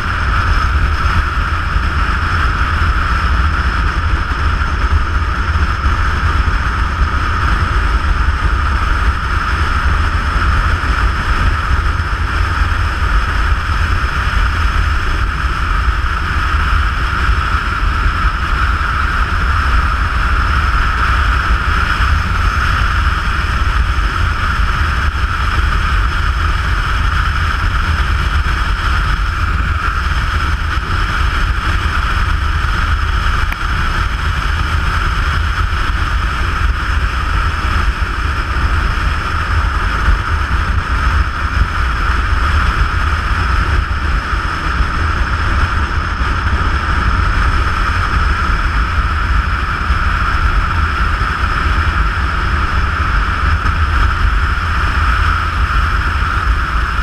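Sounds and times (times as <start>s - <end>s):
wind rush on moving motorcycle: 0.0s - 57.0s.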